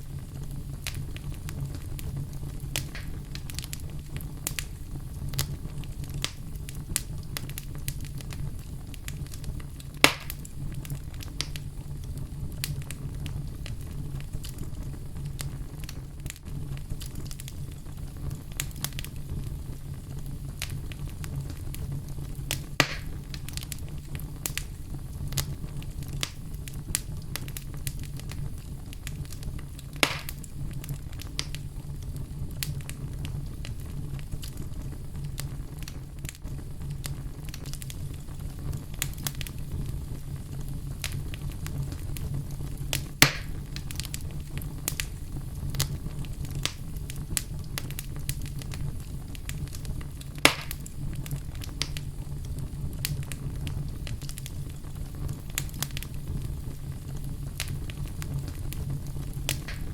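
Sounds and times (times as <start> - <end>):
fire crackling in a fireplace: 0.0 - 59.9
loud fire pops: 0.0 - 59.9
low rumble of flame: 0.0 - 59.9.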